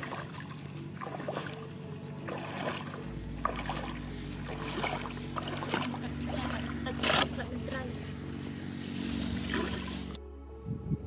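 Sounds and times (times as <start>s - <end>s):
feet splashing through muddy water: 0.0s - 10.2s
low hum: 0.0s - 11.0s.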